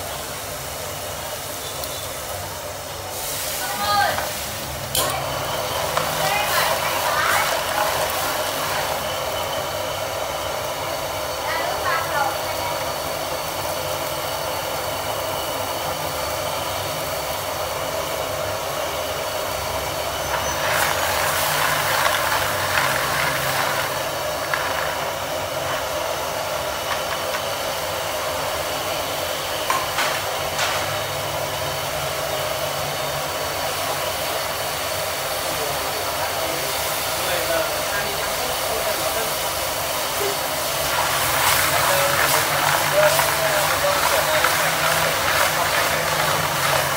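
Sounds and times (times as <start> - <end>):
broth bubbling: 0.0 - 29.6, 31.3 - 46.9
gas burner hissing: 0.0 - 46.9.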